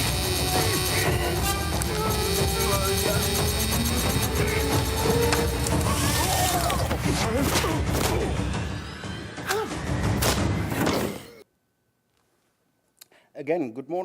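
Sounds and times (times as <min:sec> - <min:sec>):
film soundtrack music: 0:00.0 - 0:11.4.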